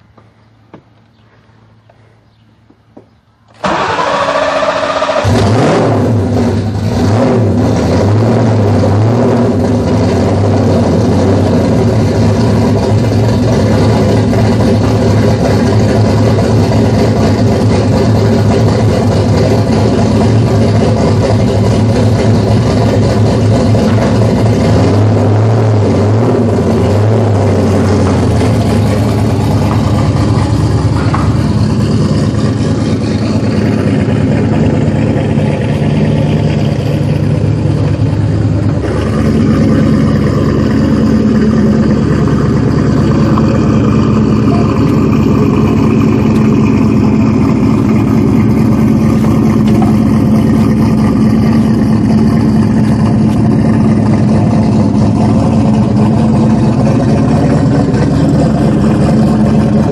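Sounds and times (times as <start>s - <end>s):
car engine idling loudly: 5.2s - 59.9s.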